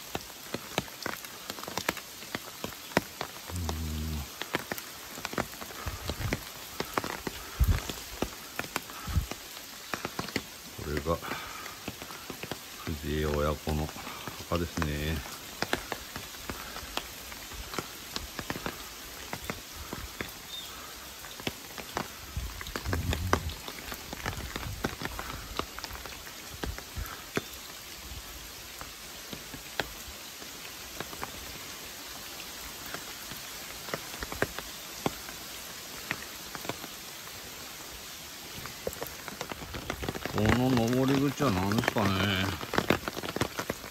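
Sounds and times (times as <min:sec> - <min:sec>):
faint steady hiss: 0:00.0 - 0:43.9
raindrops ticking: 0:00.0 - 0:43.9.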